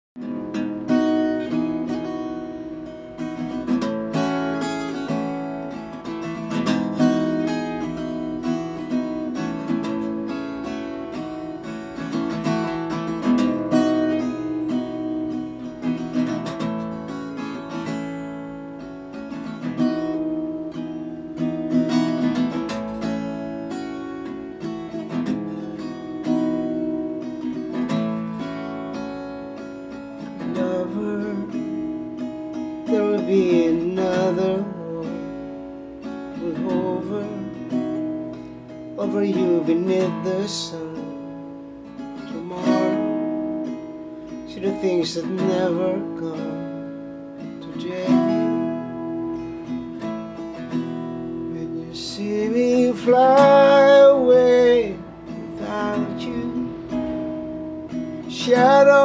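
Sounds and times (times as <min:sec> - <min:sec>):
acoustic guitar chords: 0:00.0 - 0:59.0.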